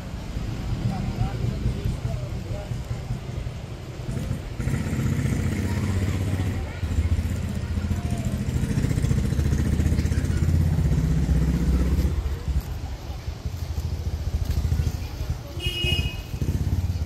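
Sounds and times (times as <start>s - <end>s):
motorcycle engine running: 3.0s - 17.0s.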